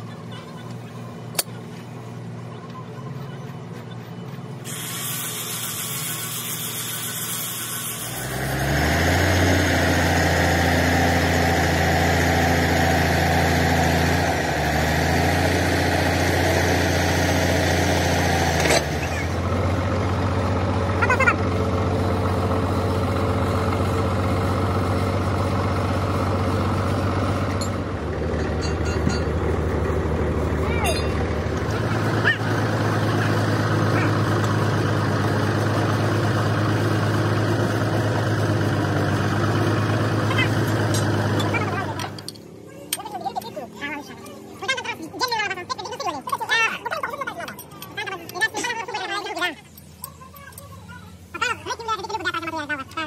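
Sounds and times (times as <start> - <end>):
diesel engine idling: 0.0 - 5.4, 8.0 - 53.0.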